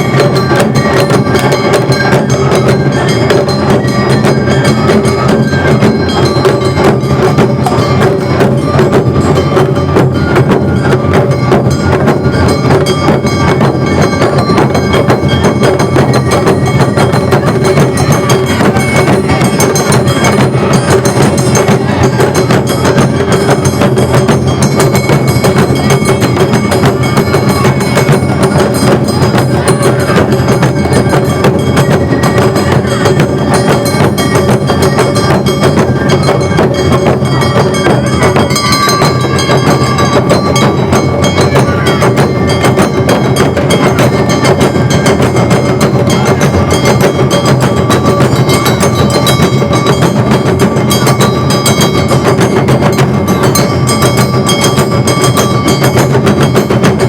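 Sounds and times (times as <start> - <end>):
festival band playing drums and gongs: 0.0 - 57.0.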